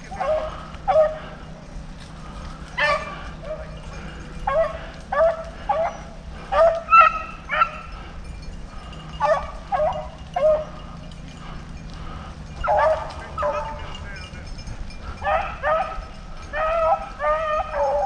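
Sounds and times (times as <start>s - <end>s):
hunting dogs barking: 0.0s - 18.0s.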